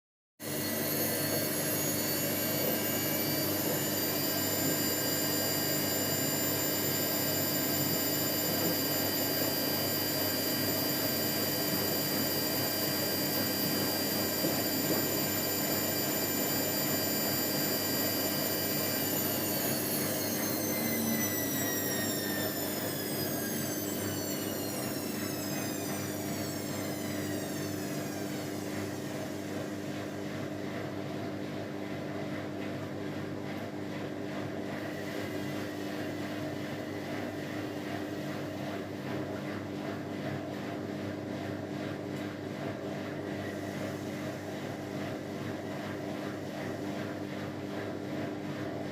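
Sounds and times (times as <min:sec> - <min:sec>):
washing machine spinning: 0:00.4 - 0:48.9.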